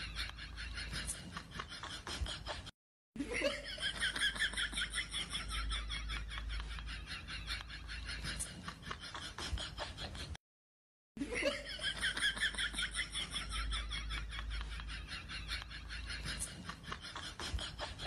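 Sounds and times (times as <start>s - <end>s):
people laughing: 0.0s - 10.4s, 11.2s - 18.0s.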